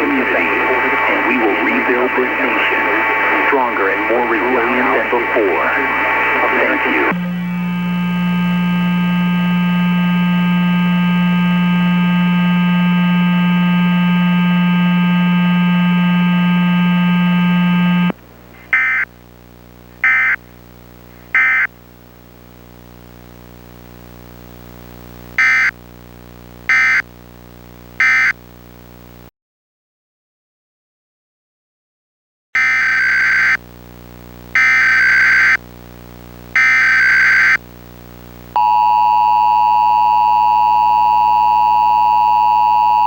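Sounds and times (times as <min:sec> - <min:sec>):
loud electronic buzzing tone: 0:00.0 - 0:21.9, 0:25.2 - 0:29.3, 0:32.6 - 0:43.0
faint hum: 0:00.0 - 0:29.3, 0:33.6 - 0:43.0.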